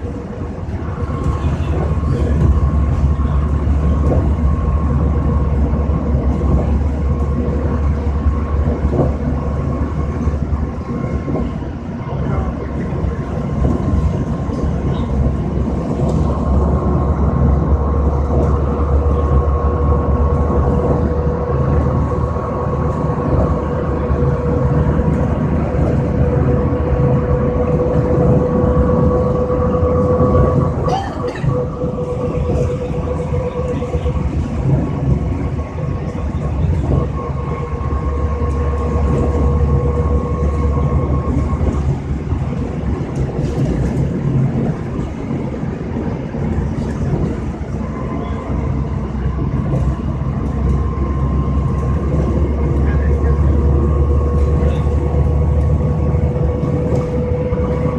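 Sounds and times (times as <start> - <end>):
bus drive whine: 0.0 - 57.9
engine and road rumble: 0.0 - 57.9.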